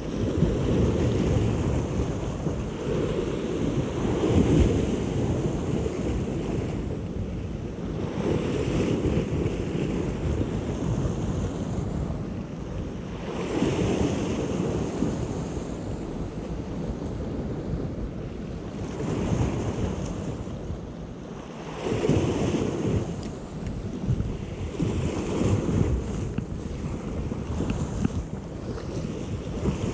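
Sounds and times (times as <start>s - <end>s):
surf washing against rocks: 0.0s - 29.9s
wind buffeting microphone: 0.0s - 29.9s.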